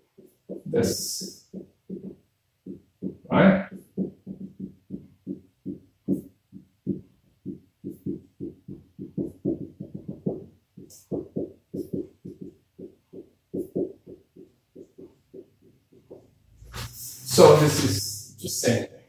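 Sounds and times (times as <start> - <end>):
marker writing on whiteboard: 0.0 - 17.9.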